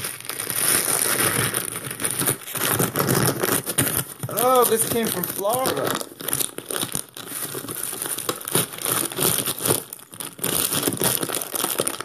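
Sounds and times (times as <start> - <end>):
packaging wrap crinkling: 0.0 - 12.0.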